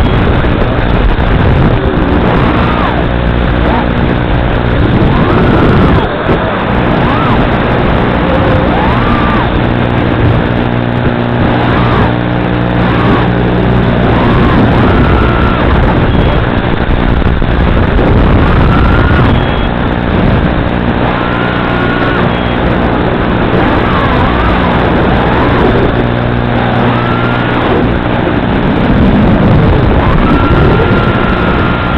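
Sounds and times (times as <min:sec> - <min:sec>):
quadcopter motors whining: 0:00.0 - 0:09.8, 0:11.1 - 0:16.6, 0:17.7 - 0:19.9, 0:20.7 - 0:28.0, 0:29.2 - 0:31.9.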